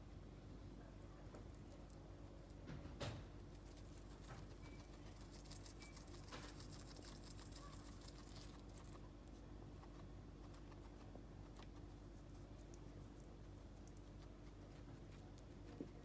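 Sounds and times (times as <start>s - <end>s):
low steady hum: 0.0s - 16.0s
guinea pig chewing clicks: 1.4s - 16.0s.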